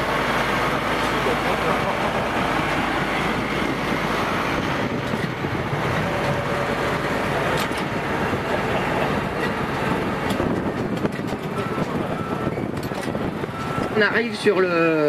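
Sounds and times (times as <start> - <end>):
low rumble of machinery: 0.0 - 15.0
tractor diesel engine under load: 0.0 - 15.0.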